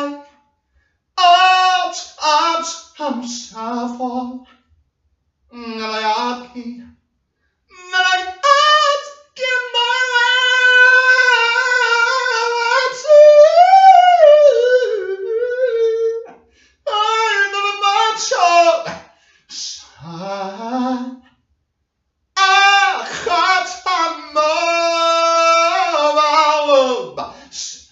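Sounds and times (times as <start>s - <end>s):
person singing unaccompanied: 1.2s - 4.5s, 5.5s - 6.9s, 7.7s - 21.2s, 22.4s - 27.9s.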